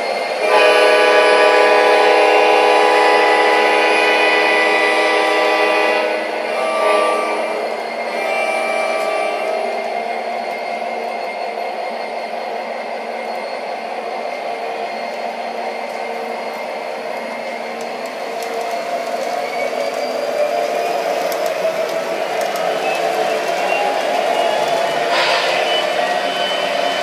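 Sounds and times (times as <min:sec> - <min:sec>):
model train wheels rumbling: 0:00.0 - 0:27.0.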